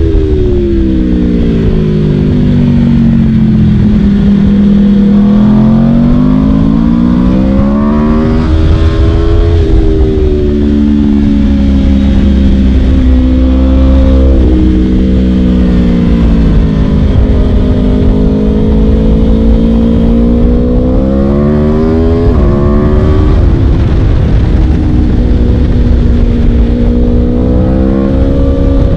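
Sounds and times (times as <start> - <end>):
motorcycle engine revving hard: 0.0 - 28.9.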